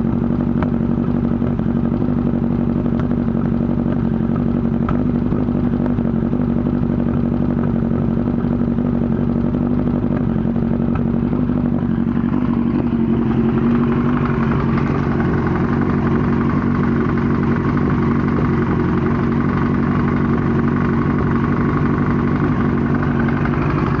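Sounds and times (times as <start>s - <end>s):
engine knocking: 0.0s - 24.0s
motorcycle engine idling: 0.0s - 24.0s.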